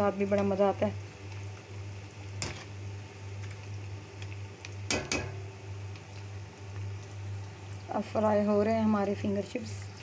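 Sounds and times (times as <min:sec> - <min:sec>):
chips sizzling in hot oil: 0:00.0 - 0:10.0.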